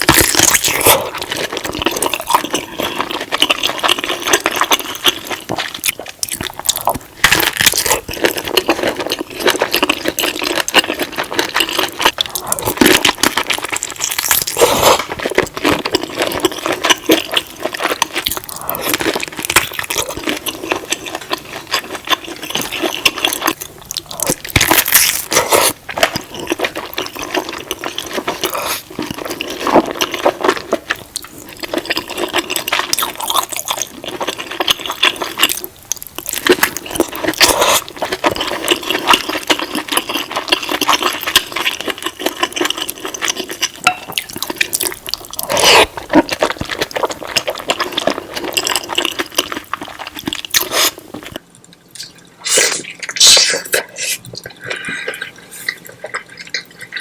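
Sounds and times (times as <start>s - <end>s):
wet chewing: 0.0s - 57.0s.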